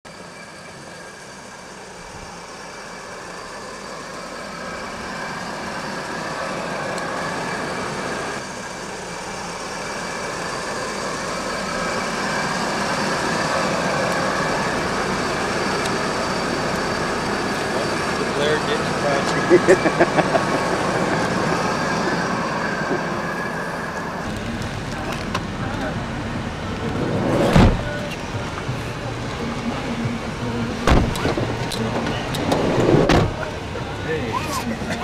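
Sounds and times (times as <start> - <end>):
car engine running: 0.4 - 35.0.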